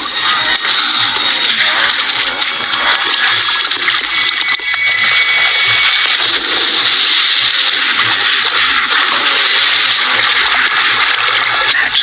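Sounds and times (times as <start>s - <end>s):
river water churning and splashing: 0.0s - 12.0s.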